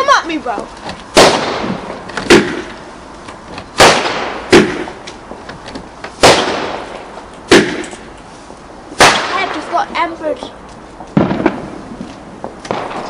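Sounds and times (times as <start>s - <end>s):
fireworks bangs: 0.0s - 5.5s, 6.1s - 8.2s, 8.9s - 13.0s.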